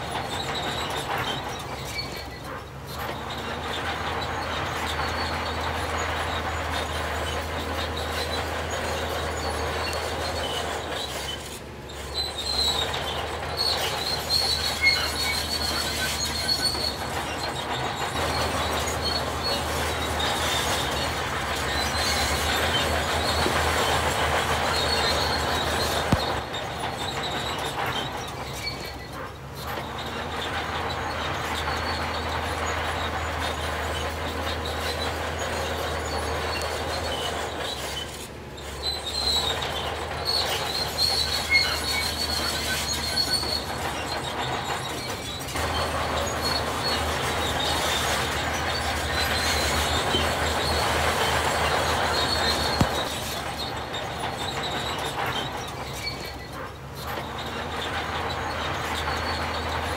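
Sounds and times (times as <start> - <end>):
high-pitched metal squeal: 0.0 - 59.9
metallic grinding and clanking: 0.0 - 59.9.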